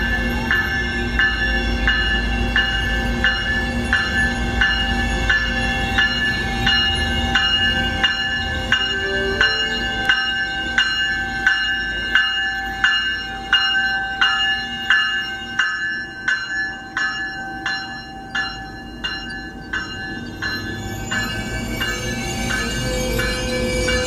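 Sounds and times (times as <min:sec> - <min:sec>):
train bell ringing: 0:00.0 - 0:24.0
train coaches rumbling: 0:00.0 - 0:24.0.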